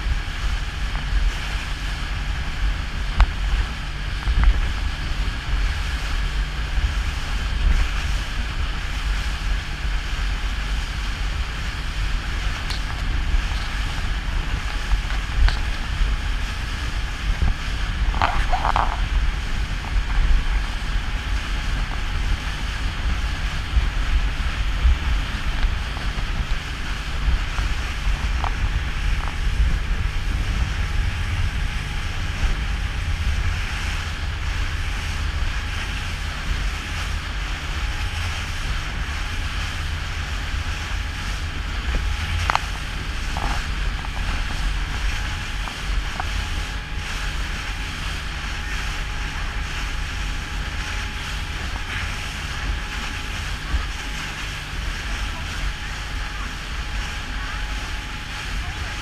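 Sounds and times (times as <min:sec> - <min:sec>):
motorboat engine droning: 0:00.0 - 0:59.0
water rushing along hull: 0:00.0 - 0:59.0
wind on microphone: 0:00.0 - 0:59.0.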